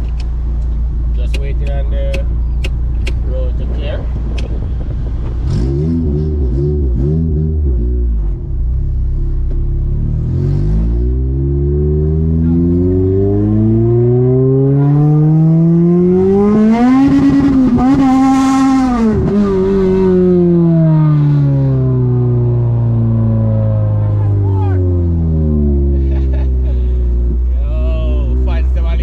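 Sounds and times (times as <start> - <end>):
car engine accelerating hard: 1.2 - 29.0.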